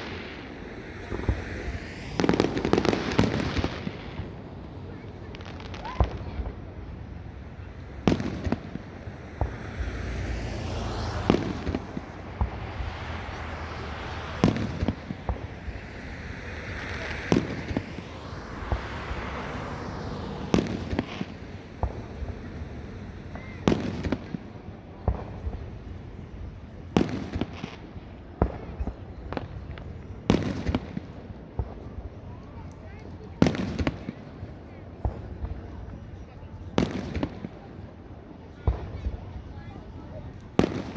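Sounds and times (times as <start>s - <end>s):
fireworks booming: 0.0s - 32.4s, 36.7s - 37.9s, 38.5s - 40.9s
fireworks crackling and hissing: 0.0s - 40.9s.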